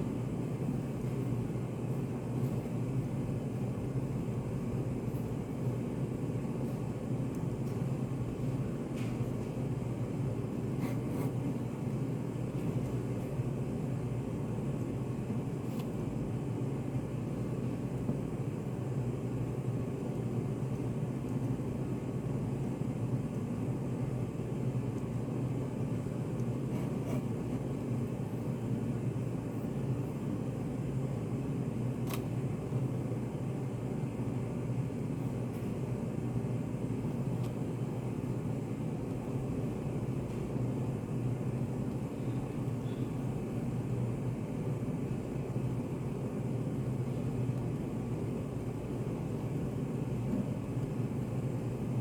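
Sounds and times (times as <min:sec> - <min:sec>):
low room hum: 0:00.0 - 0:52.0.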